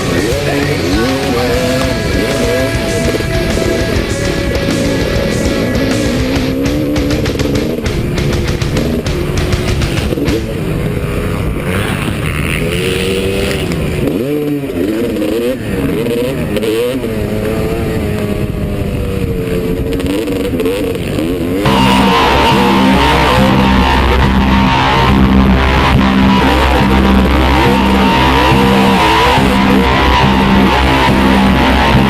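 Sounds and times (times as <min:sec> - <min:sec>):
loud rock music with guitar: 0:00.0 - 0:32.0
motorcycle engines revving: 0:00.0 - 0:32.0.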